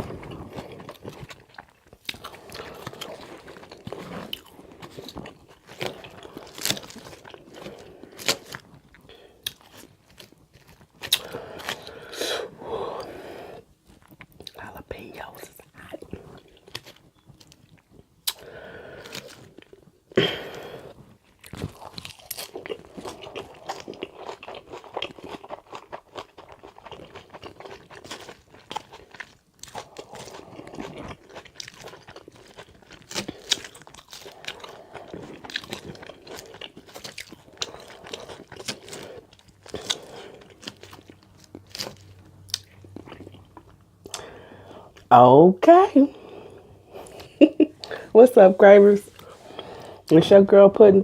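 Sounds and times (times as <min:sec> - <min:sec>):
open-mouth chewing and crunching: 0:00.0 - 0:45.1, 0:46.1 - 0:48.1.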